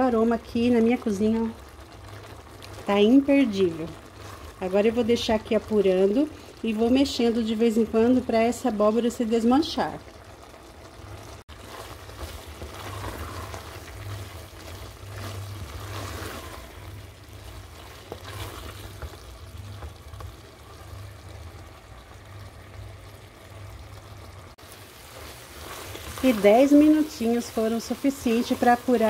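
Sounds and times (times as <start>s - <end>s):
sizzling: 0.0s - 29.0s
wooden spoon stirring in a pot: 0.1s - 8.7s, 11.2s - 22.1s, 24.6s - 29.0s.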